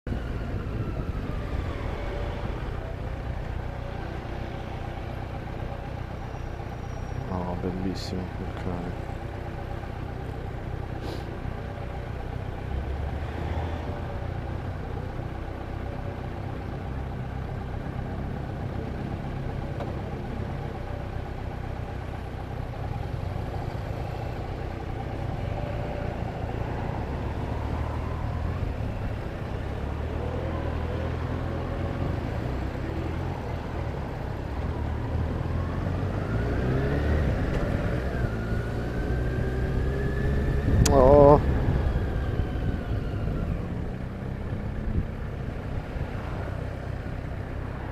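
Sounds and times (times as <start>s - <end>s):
road noise: 0.0s - 47.9s
vehicle engine accelerating: 0.1s - 47.9s.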